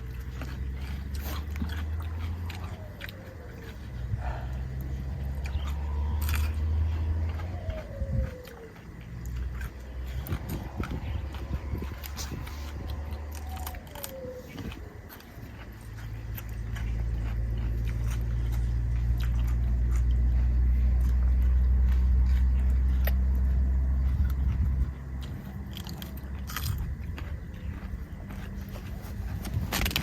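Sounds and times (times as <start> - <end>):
chewing and crunching: 0.0 - 30.0
low steady rumble: 0.0 - 30.0
wet clicks and bites: 0.0 - 30.0.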